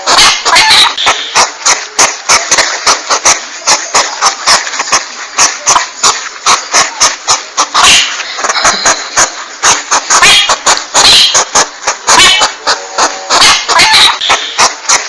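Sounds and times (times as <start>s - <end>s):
constant hiss: 0.0s - 15.0s
porcupine clicking bursts: 0.0s - 15.0s.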